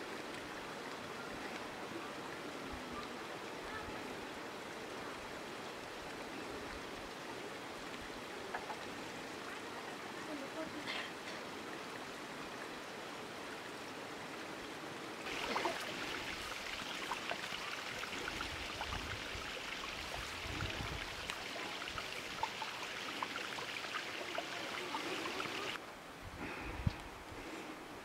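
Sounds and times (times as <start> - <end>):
flowing water rushing: 0.0 - 25.9.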